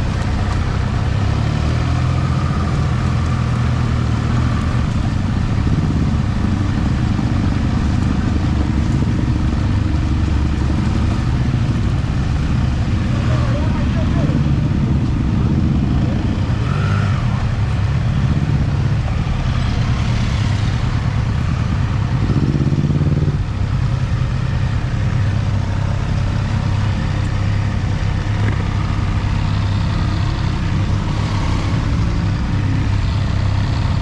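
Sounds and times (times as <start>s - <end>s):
motorcycle engine running at low revs: 0.0s - 34.0s.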